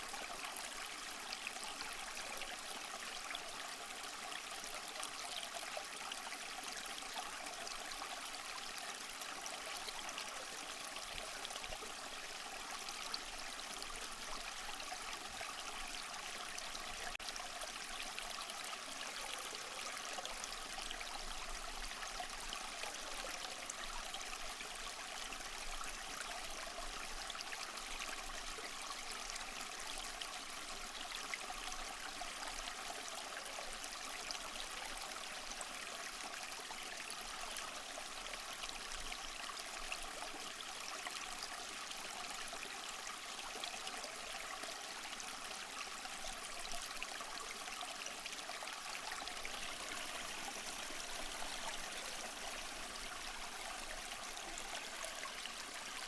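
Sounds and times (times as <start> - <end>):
small waterfall splashing over rocks: 0.0 - 56.0.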